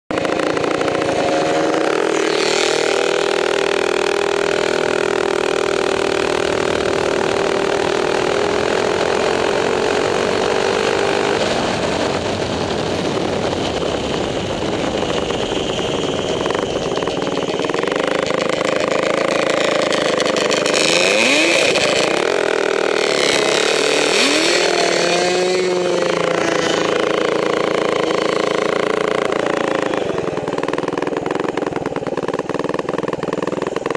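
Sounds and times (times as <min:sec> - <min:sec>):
two-stroke engine running: 0:00.1 - 0:33.9.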